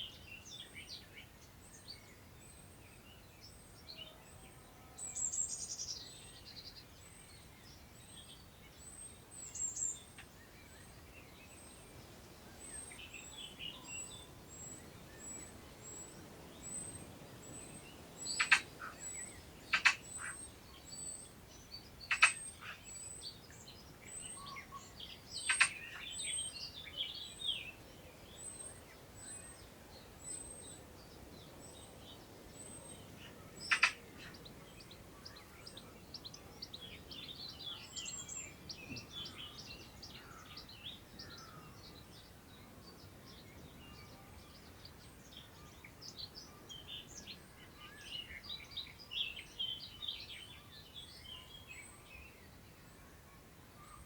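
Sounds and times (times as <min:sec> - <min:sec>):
faint wind in grass: 0:00.0 - 0:54.0.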